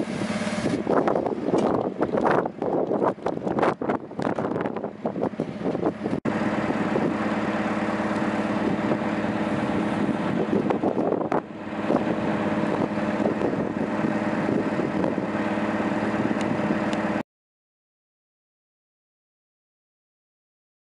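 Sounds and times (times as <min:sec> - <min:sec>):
refrigeration unit humming: 0:00.0 - 0:17.2
wind on microphone: 0:00.0 - 0:17.2.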